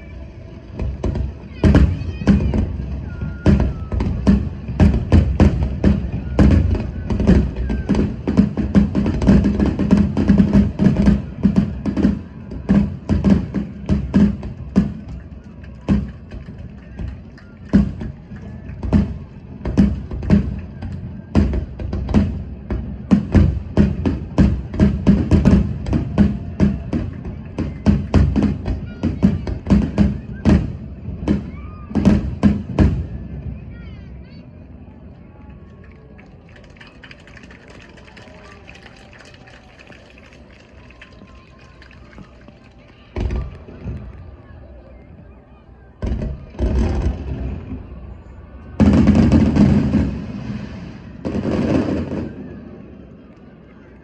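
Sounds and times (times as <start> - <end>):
fireworks bursting: 0.7 - 33.7, 37.0 - 44.6, 46.0 - 53.3.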